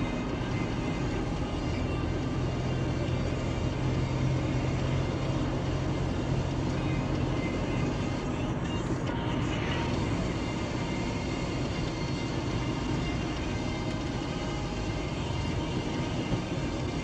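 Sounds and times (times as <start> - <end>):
car driving on road: 0.0 - 17.0.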